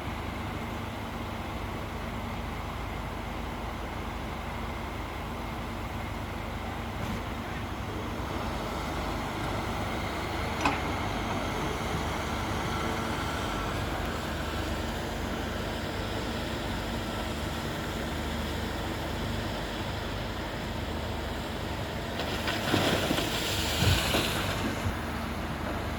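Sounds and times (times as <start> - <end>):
diesel machinery rumbling: 0.0 - 25.9.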